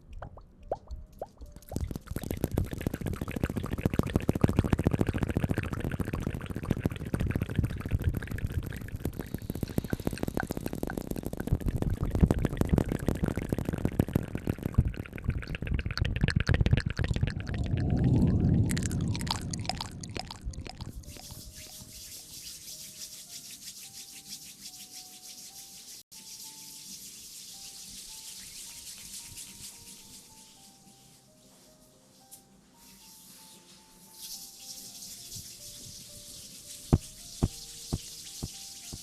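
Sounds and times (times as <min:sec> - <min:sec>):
wet lathery rubbing on microphone: 0:01.4 - 0:17.7, 0:18.8 - 0:31.2, 0:32.9 - 0:39.0.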